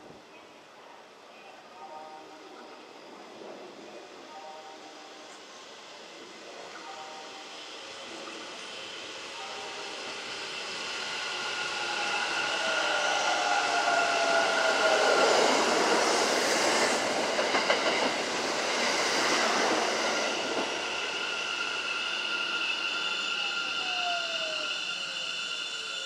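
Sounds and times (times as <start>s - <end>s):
electric train passing: 0.6s - 26.0s.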